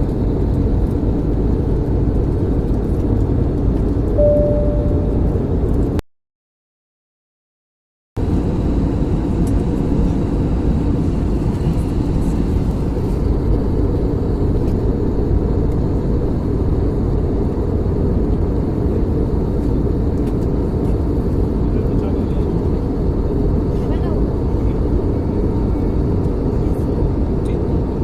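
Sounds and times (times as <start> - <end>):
jet airliner cabin noise: 0.0 - 6.0, 8.2 - 28.0.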